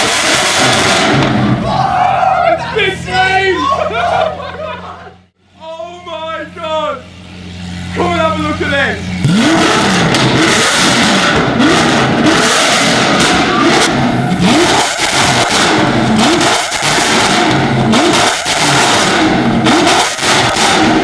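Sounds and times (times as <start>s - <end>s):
exhaust cracks: 0.0s - 5.2s, 5.9s - 21.0s
sports car engine revving: 0.0s - 5.6s, 7.0s - 21.0s.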